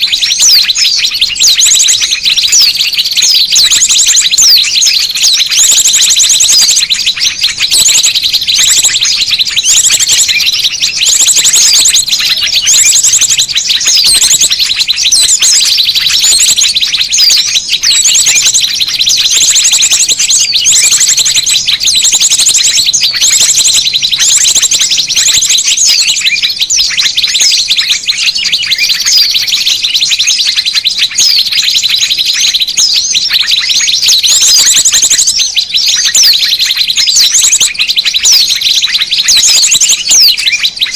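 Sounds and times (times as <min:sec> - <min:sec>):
small songbirds chirping and trilling: 0:00.0 - 0:40.9.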